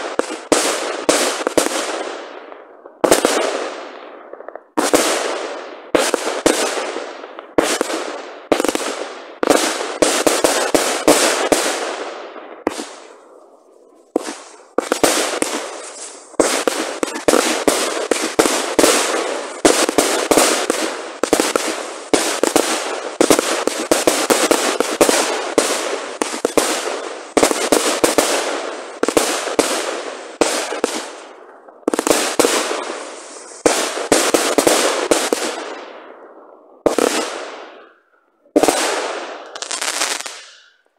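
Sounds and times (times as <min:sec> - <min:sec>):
fireworks bursting with sharp bangs: 0:00.0 - 0:40.9
fireworks crackling: 0:00.0 - 0:40.9.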